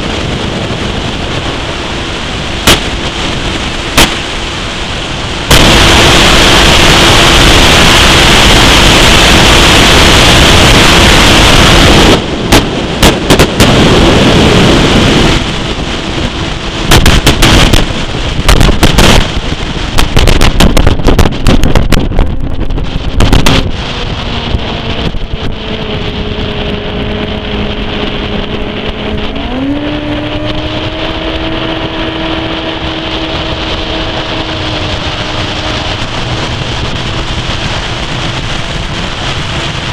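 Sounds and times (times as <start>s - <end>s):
crackling gusts or hull thumps: 0.0s - 39.9s
outboard engine running: 0.0s - 39.9s
wind buffeting microphone: 0.0s - 39.9s.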